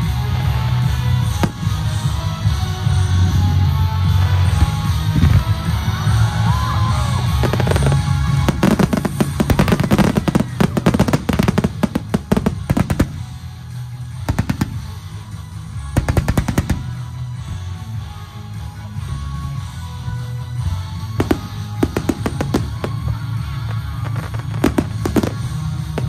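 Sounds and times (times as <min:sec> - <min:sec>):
fireworks bangs and crackles: 0:00.0 - 0:26.0
music: 0:00.0 - 0:26.0.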